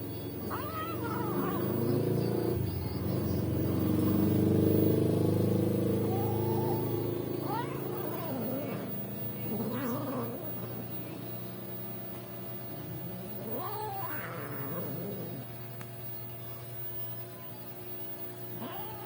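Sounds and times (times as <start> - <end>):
cats yowling: 0.0 - 19.0.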